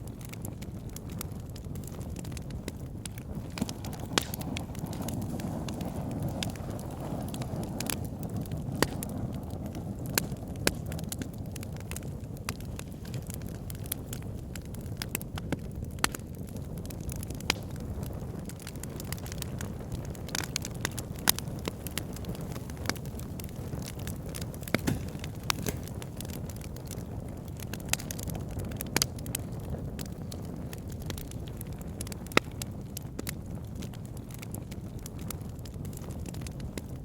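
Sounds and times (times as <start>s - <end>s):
low rumble of flames: 0.0s - 37.0s
wood crackling and popping: 0.0s - 37.0s.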